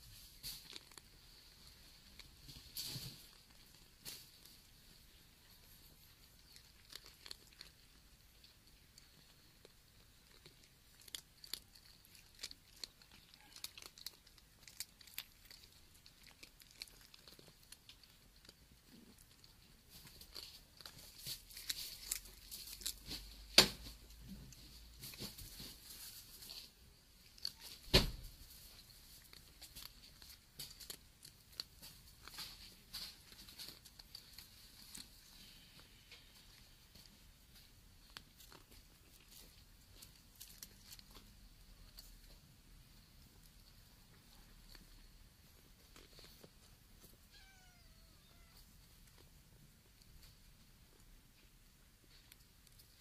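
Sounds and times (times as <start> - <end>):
cats rustling against microphone: 0.0 - 53.0.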